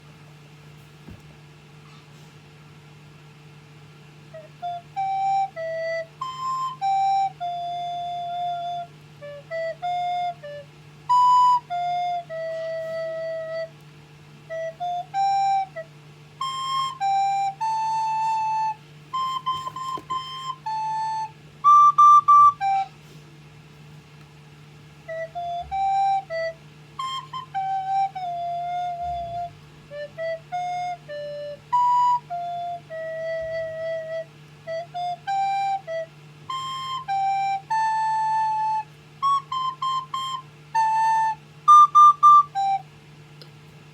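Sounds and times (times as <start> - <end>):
steady low hum: 0.0 - 43.9
child playing recorder melody: 4.3 - 13.8, 14.4 - 23.2, 25.0 - 42.9.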